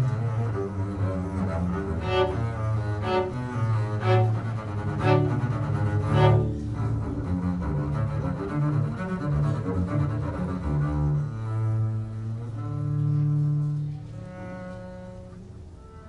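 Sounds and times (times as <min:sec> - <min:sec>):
double bass low notes: 0:00.0 - 0:16.0.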